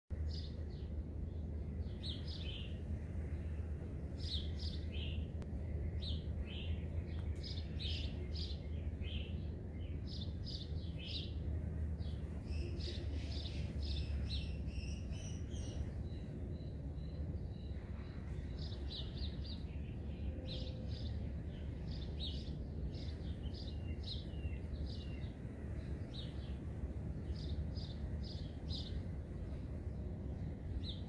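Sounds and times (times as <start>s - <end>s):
small birds chirping: 0.1s - 31.0s
steady low rumble: 0.1s - 31.0s.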